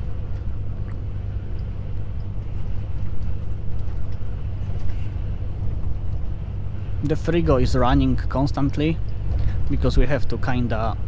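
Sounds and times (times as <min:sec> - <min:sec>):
diesel engine drone: 0:00.0 - 0:11.0
road and tyre noise: 0:00.0 - 0:11.0.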